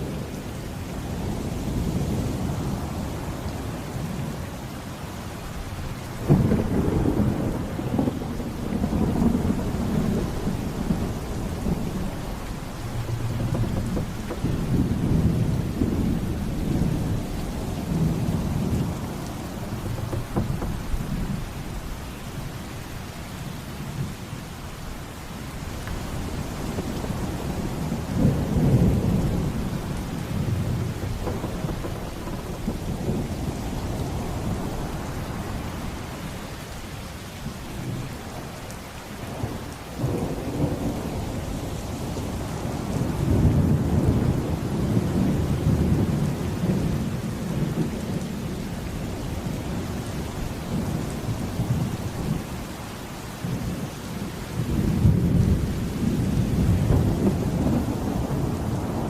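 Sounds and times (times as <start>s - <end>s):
heavy rain: 0.0s - 59.0s
thunder rumbling: 5.5s - 22.6s, 25.5s - 36.4s, 37.4s - 59.0s.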